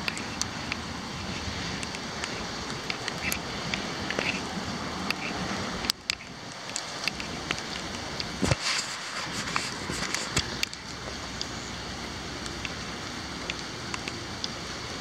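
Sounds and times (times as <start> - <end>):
raindrop ticks: 0.0 - 8.6, 9.4 - 15.0
rain and wind hiss: 0.0 - 15.0.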